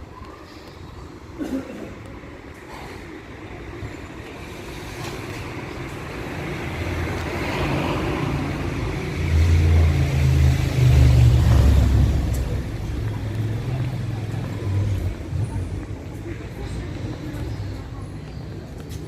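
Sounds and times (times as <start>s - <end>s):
vehicle engine hum approaching: 3.4s - 19.0s.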